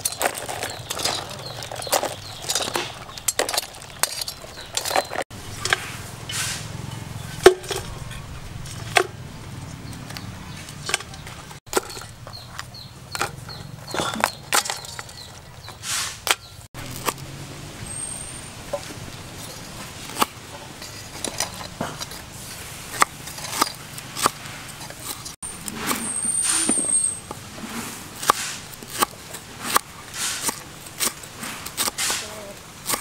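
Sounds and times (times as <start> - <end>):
crabs scratching on bamboo basket: 0.0 - 9.0, 9.7 - 17.3, 18.9 - 33.0.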